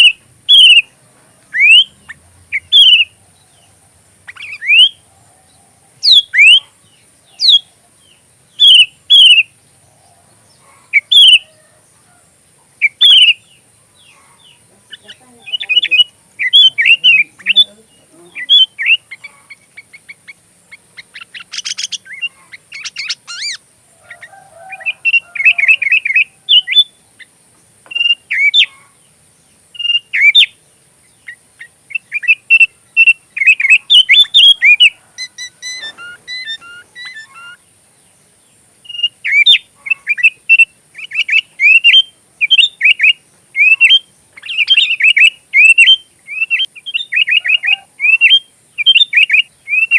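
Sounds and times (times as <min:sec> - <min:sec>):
bird song whistled notes: 0:00.0 - 0:11.7, 0:12.8 - 0:27.3, 0:27.9 - 0:28.8, 0:29.7 - 0:49.9.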